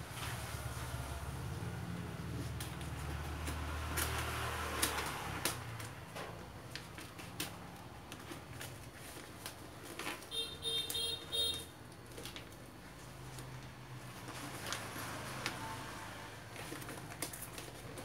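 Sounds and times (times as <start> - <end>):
plastic wrapping crinkling: 2.2 - 18.0.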